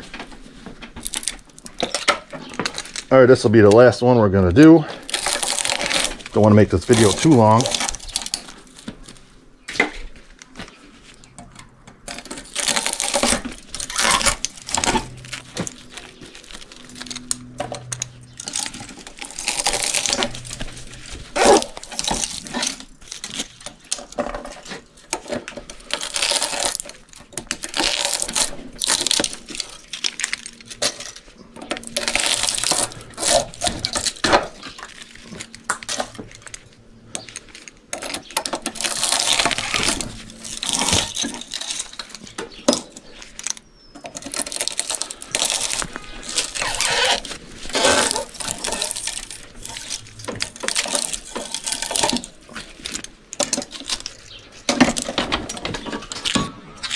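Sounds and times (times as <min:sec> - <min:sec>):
metal clinking and scraping: 0:04.8 - 0:56.9.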